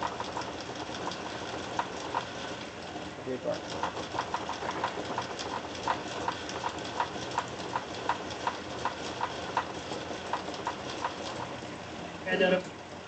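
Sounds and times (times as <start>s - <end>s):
rhythmic clip-clop clicking: 0.0s - 2.8s, 3.5s - 11.6s.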